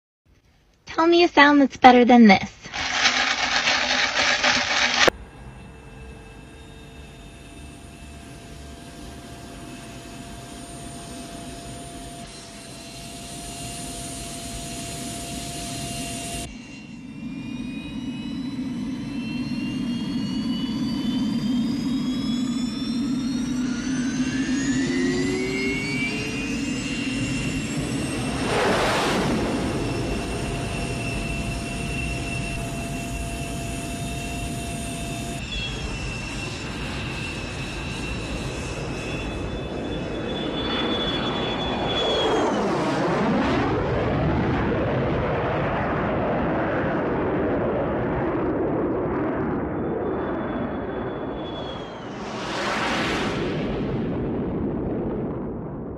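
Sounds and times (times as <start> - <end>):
jet engine whine and rumble: 1.3 - 55.9.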